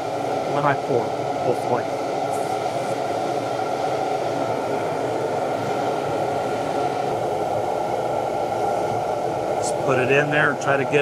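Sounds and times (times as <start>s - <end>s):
shop machinery running: 0.0s - 11.0s.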